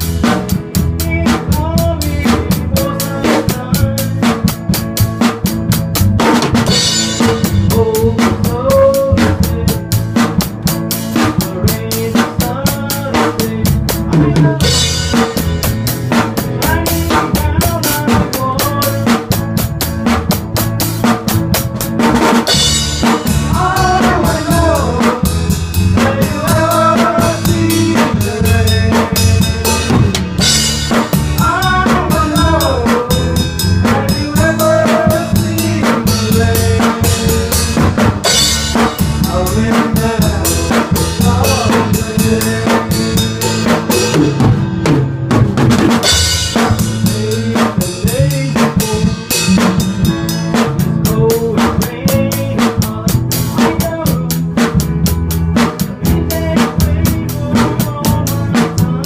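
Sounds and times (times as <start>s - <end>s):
drum kit beat: 0.0s - 59.0s
low bass part: 0.0s - 59.0s
small band playing live: 0.0s - 59.0s.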